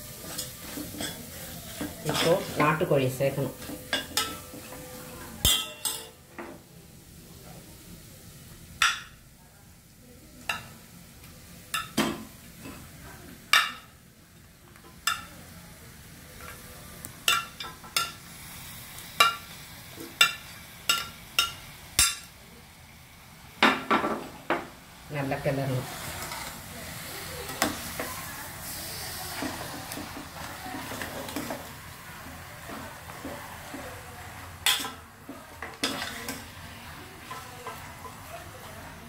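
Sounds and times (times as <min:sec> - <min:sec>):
faint sizzle: 0:00.0 - 0:39.0.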